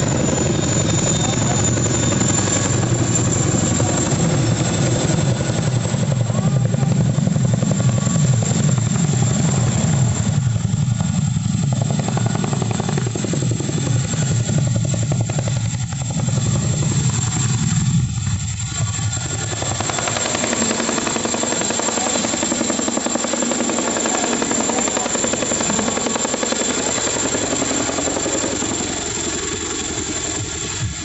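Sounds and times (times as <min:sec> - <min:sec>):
helicopter rotor beat: 0:00.0 - 0:31.0.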